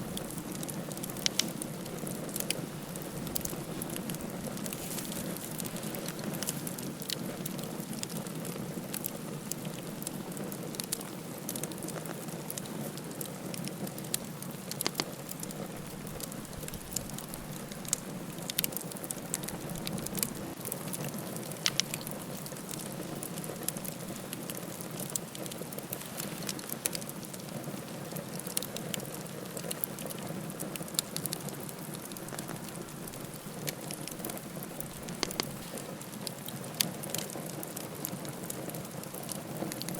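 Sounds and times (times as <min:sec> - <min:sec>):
campfire burning: 0:00.0 - 0:39.9
fire crackles and pops: 0:00.0 - 0:39.9.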